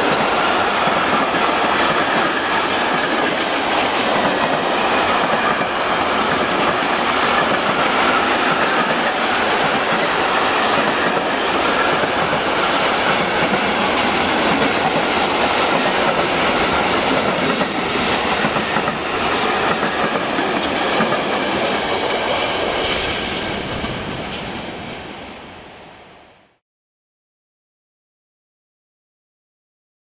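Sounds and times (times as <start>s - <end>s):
clickety-clack over rail joints: 0.0s - 24.8s
train wheels rumbling on rail: 0.0s - 26.3s.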